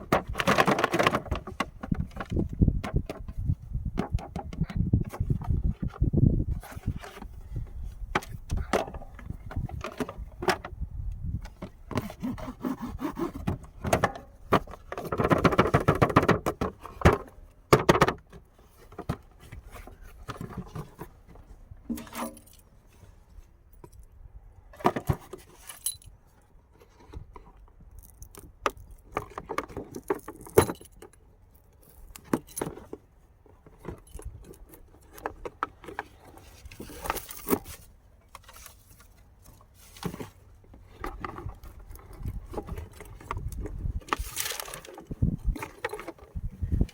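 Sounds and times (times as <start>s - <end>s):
plastic parts clicking and rattling: 0.0s - 6.0s, 6.6s - 10.8s, 11.4s - 22.7s, 26.8s - 46.9s.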